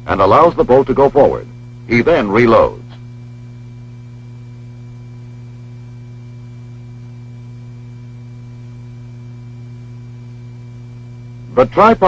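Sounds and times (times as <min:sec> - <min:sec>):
electrical hum with high whine: 0:00.0 - 0:12.0.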